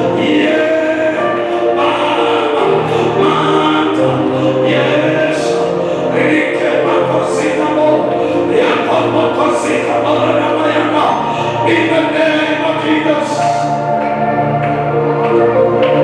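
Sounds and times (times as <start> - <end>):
choir singing gospel song: 0.0 - 16.0
instrumental accompaniment: 0.0 - 16.0.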